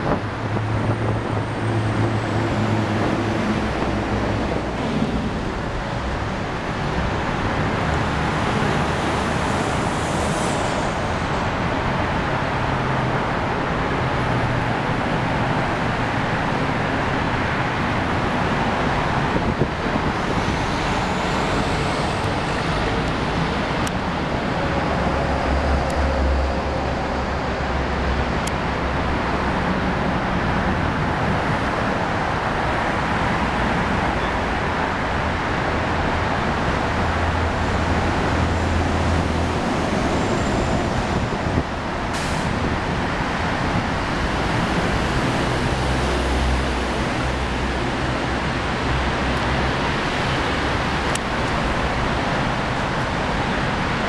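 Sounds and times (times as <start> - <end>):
heavy vehicles rumbling: 0.0 - 54.0
road traffic hiss and rumble: 0.0 - 54.0.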